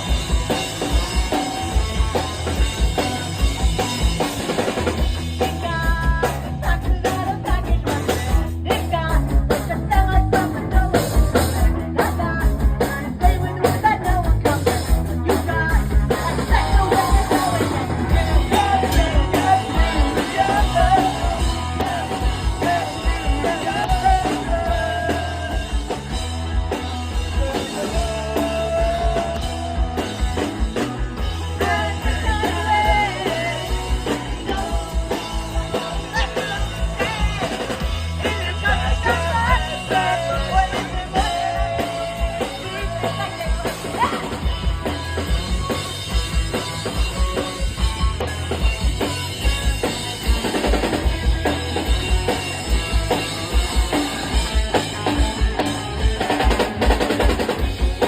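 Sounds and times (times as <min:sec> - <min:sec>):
pop-punk band playing: 0:00.0 - 0:58.0.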